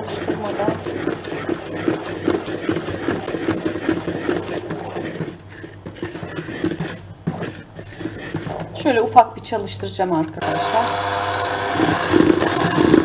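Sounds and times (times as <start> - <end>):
electric hand mixer whirring: 0.0 - 8.8, 10.4 - 13.0.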